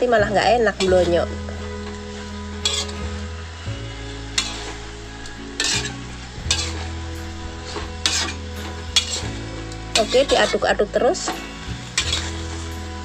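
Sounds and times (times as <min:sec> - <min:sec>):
food sizzling: 0:00.0 - 0:13.0
metal spatula scraping a wok: 0:00.0 - 0:13.0.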